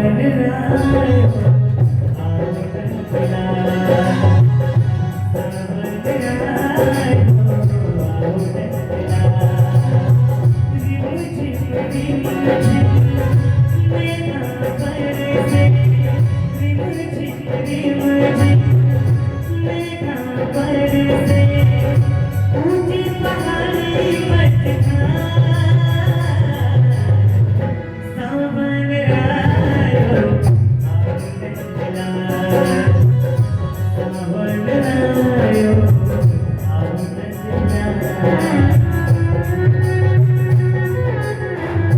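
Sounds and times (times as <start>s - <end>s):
devotional music with steady rhythm: 0.0s - 41.9s.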